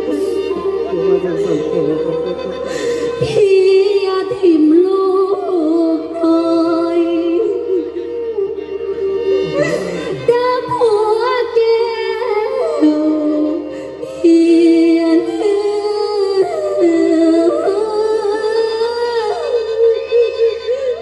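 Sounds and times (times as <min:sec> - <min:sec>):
held instrumental notes: 0:00.0 - 0:21.0.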